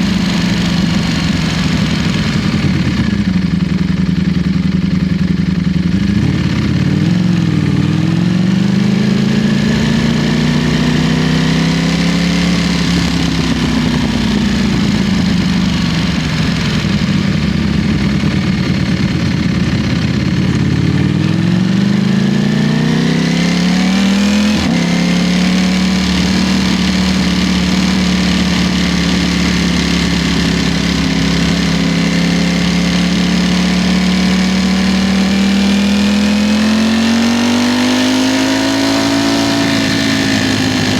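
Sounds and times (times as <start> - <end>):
motorcycle engine at speed: 0.0 - 40.9.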